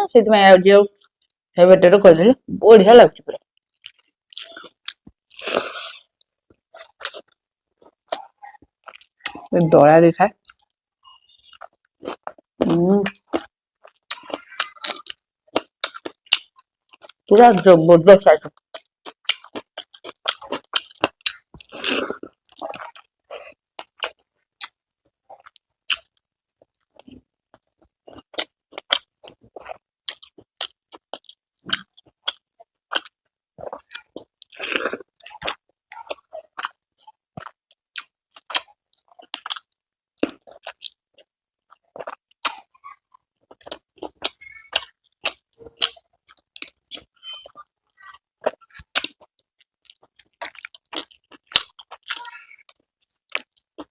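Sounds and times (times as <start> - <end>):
person chewing and crunching: 3.6 - 9.5, 10.4 - 17.8, 18.5 - 53.9.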